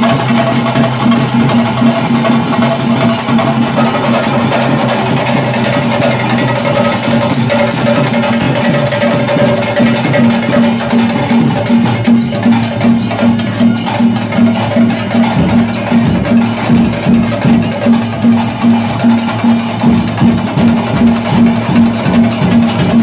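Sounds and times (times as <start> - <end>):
percussion-led music: 0.0 - 23.0.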